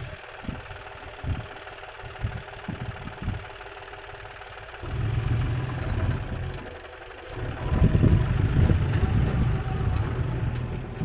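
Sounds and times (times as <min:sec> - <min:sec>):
diesel engines idling: 0:00.0 - 0:11.0.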